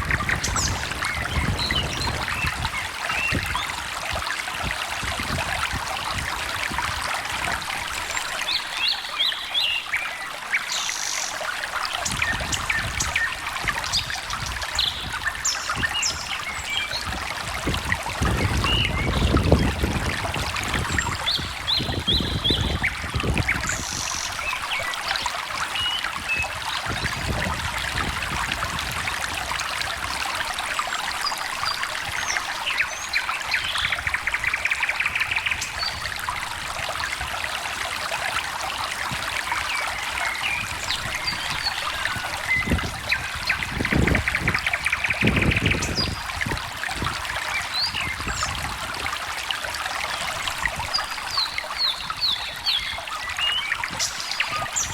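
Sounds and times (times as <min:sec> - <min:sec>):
stream trickling and babbling: 0:00.0 - 0:54.9.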